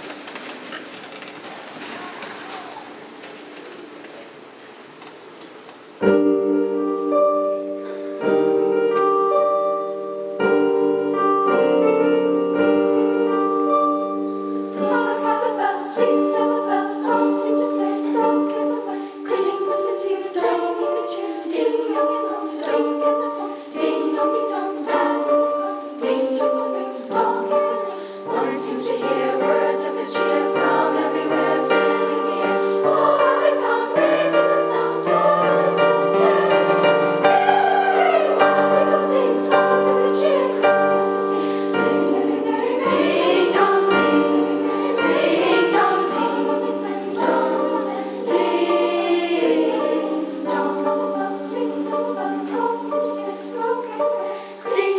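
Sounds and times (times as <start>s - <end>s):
treble choir singing: 6.1s - 54.9s.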